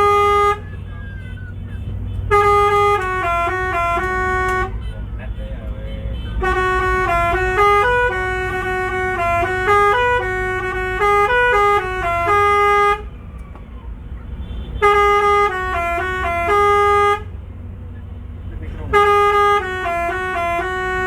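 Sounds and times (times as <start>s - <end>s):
musical bus air horn: 0.0s - 13.1s, 14.4s - 17.4s, 18.6s - 21.0s.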